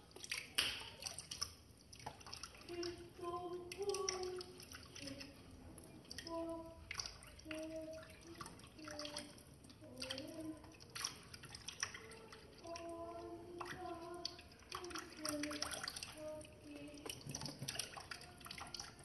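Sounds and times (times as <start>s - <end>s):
tap water splashing into sink: 0.0s - 19.0s.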